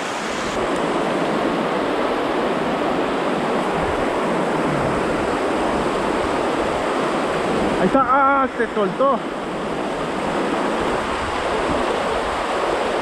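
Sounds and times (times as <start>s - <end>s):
river rapids rushing over rocks: 0.0s - 13.0s.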